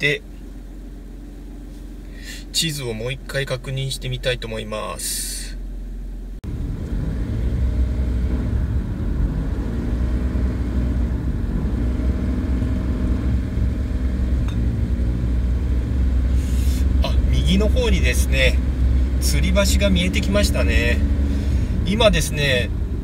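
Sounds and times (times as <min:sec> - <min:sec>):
car cabin hum: 0:00.0 - 0:23.0
engine and tyres rumbling: 0:00.0 - 0:23.0.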